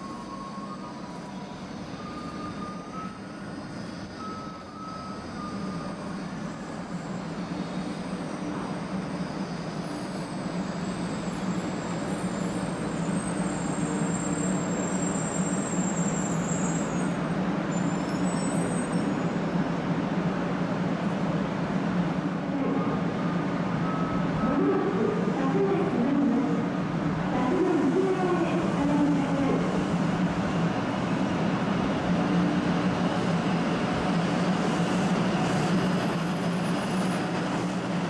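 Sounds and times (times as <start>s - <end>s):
train rumbling into station: 0.0s - 38.0s.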